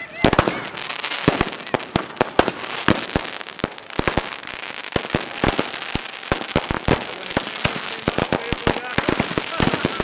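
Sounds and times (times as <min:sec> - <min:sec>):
fireworks sharp bangs: 0:00.0 - 0:10.0.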